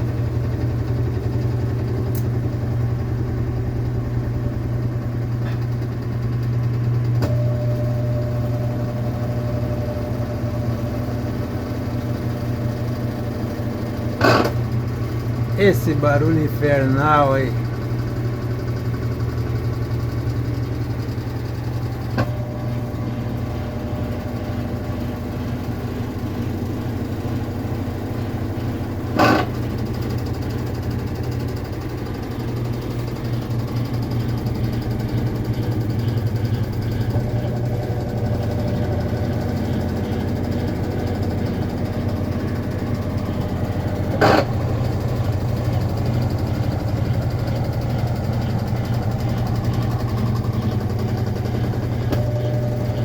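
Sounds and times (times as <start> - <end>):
washing machine spinning with rattle: 0.0 - 53.0.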